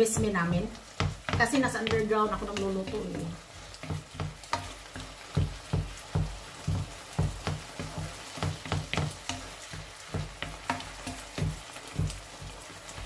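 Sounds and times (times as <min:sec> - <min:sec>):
low sizzle of frying: 0:00.0 - 0:13.0
spatula knocking on frying pan: 0:00.0 - 0:13.0.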